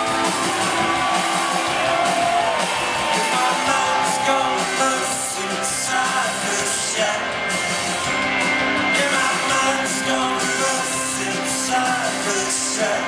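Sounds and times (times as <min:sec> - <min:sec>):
live rock band: 0:00.0 - 0:13.0
person singing: 0:01.8 - 0:07.9, 0:08.7 - 0:13.0.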